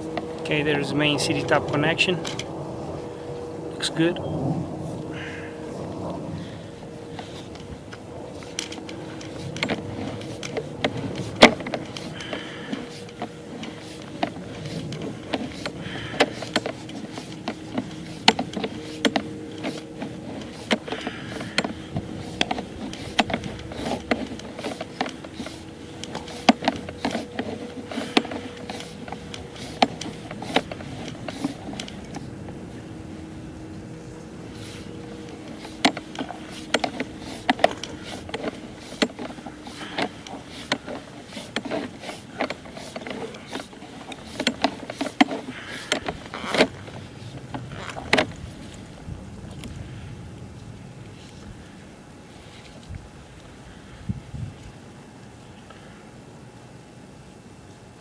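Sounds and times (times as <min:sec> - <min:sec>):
faint hum: 0:00.0 - 0:58.0.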